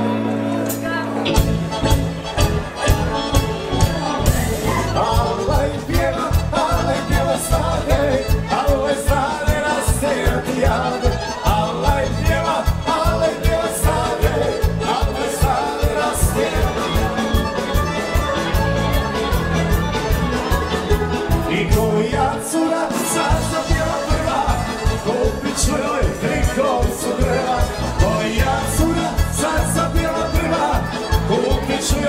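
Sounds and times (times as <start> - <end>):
upbeat dance band music: 0.7 - 32.0
person singing: 2.8 - 32.0.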